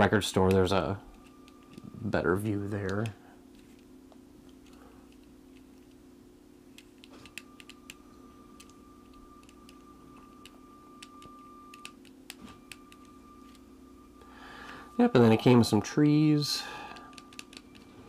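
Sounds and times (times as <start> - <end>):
thin high whine: 0.0 - 3.8, 7.0 - 18.0
steady low hum: 0.0 - 18.0.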